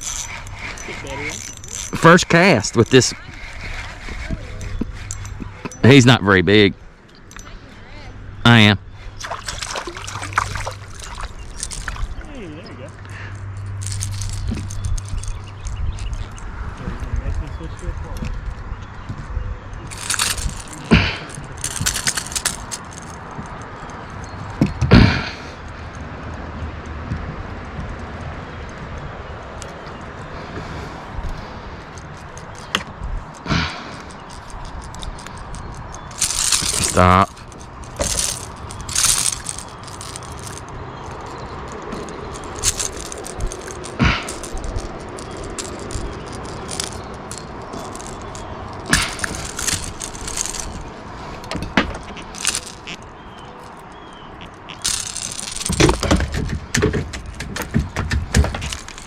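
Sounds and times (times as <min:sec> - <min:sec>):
fishing gear clicking and knocking: 0:00.0 - 0:07.5, 0:08.4 - 0:19.1, 0:19.7 - 0:59.0.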